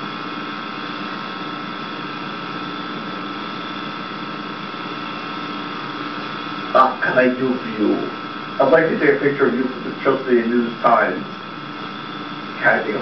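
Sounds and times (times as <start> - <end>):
steady electrical hum and hiss: 0.0 - 13.0.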